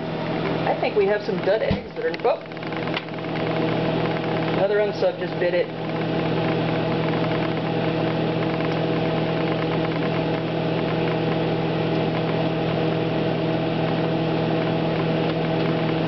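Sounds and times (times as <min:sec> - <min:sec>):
microwave fan whirring: 0:00.0 - 0:16.0
microwave oven humming: 0:00.0 - 0:16.0.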